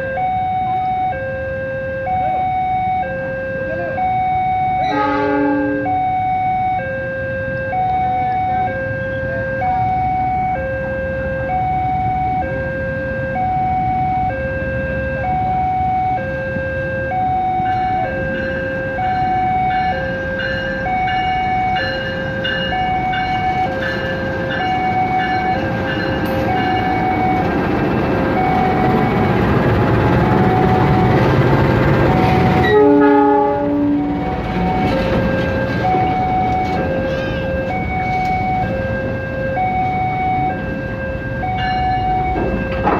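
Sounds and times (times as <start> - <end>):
level crossing two-tone alarm: 0.0 - 42.9
approaching train rumble: 2.0 - 42.9.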